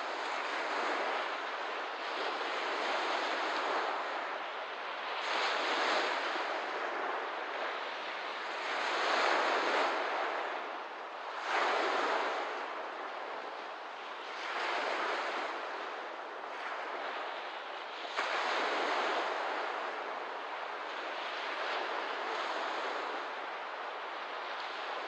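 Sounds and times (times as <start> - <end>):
small waves washing onto shore: 0.0 - 25.0.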